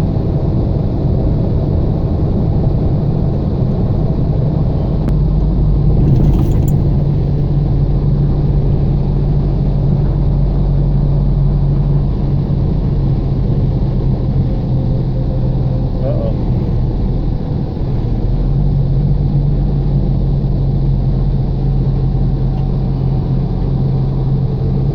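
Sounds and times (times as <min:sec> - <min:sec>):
car engine and road noise: 0:00.7 - 0:24.9.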